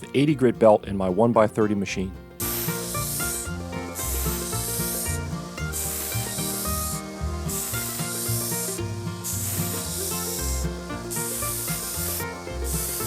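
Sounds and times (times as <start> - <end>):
belt sander grinding metal: 2.4 - 13.0.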